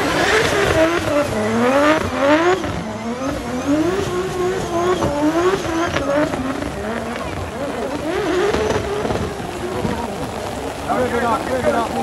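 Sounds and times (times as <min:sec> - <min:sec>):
car engine revving: 0:00.0 - 0:12.0
rain and tyre spray hiss: 0:00.0 - 0:12.0.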